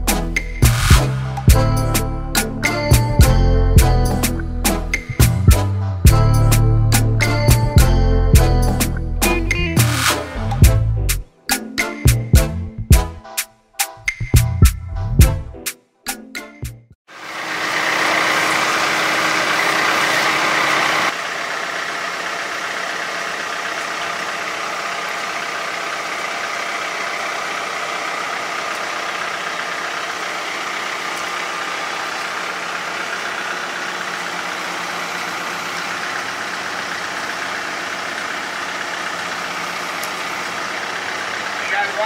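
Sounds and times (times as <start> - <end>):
tractor diesel engine running: 0.0 - 11.1, 17.1 - 42.0.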